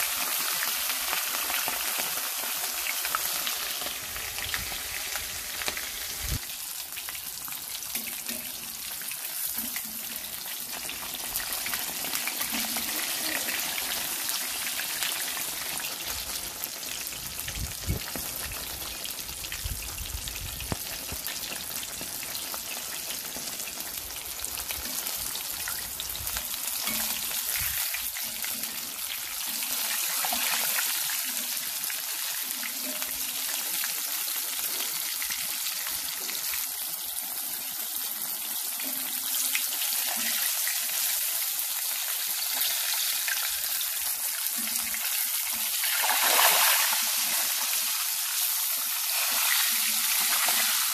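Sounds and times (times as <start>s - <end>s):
oil sizzling and crackling: 0.0s - 50.9s.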